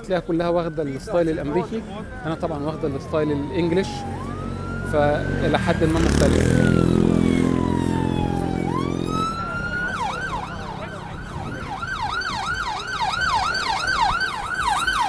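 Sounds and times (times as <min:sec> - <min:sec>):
emergency vehicle siren: 0:00.0 - 0:15.0.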